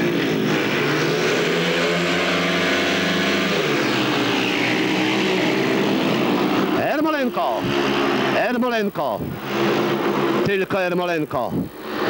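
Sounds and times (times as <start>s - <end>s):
motorcycles revving hard: 0.0s - 10.7s, 11.5s - 12.0s.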